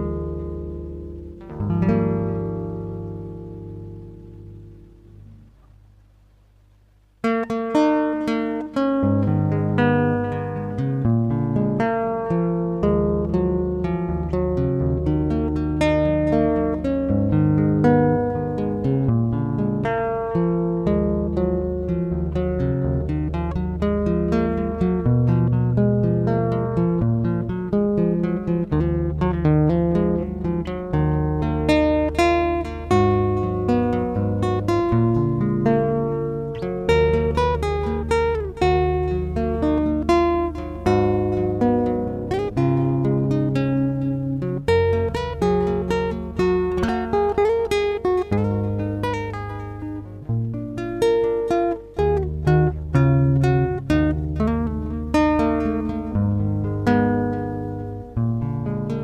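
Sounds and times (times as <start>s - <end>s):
acoustic guitar music: 0.0s - 59.0s.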